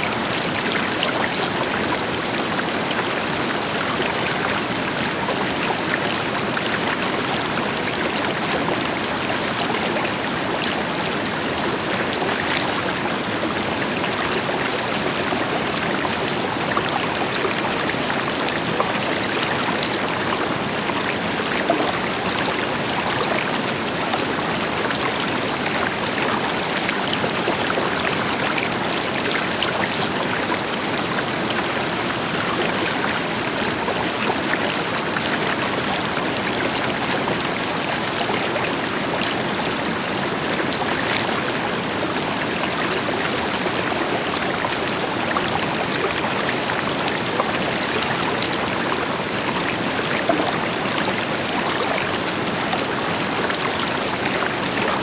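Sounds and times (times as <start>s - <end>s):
river flowing over rocks: 0.1s - 55.0s.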